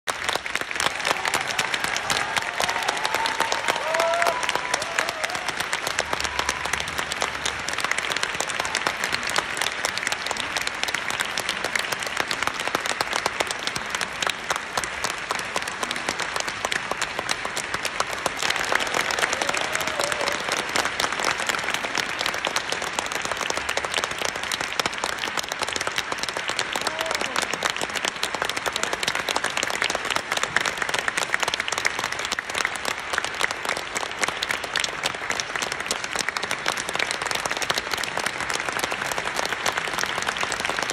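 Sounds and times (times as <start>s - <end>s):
audience applauding: 0.0s - 40.9s.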